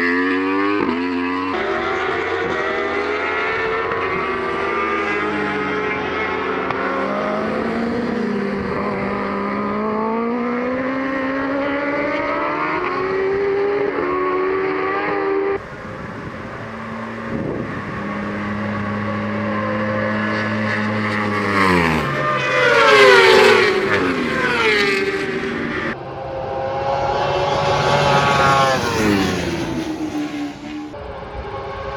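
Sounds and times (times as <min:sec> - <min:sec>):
superbike passing by: 0:00.0 - 0:31.2
superbike engines revving high: 0:00.1 - 0:13.5, 0:15.5 - 0:31.0.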